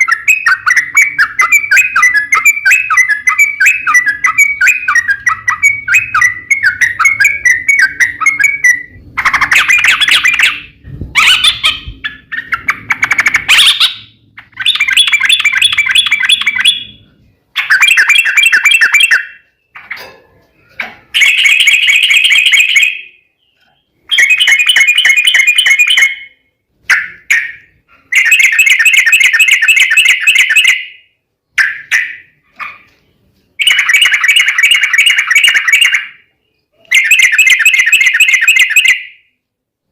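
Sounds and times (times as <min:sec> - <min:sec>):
bird singing chattering trills: 0:00.0 - 0:20.0, 0:20.6 - 0:39.0.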